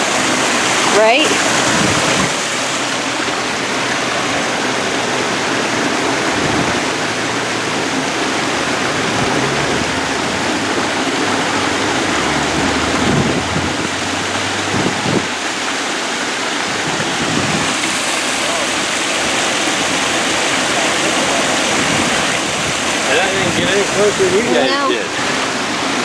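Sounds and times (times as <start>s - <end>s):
water rushing from waterfall: 0.0s - 26.0s.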